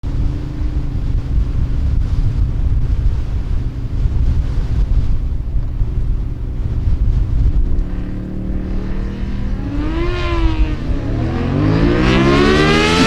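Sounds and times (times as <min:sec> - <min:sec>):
faint engine hum: 0:00.0 - 0:13.0
wind buffeting microphone: 0:00.0 - 0:13.0.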